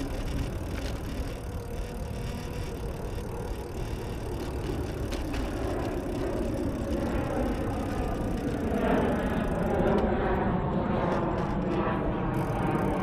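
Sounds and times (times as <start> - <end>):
bicycle clicks: 0.0 - 13.0
road noise: 0.0 - 13.0.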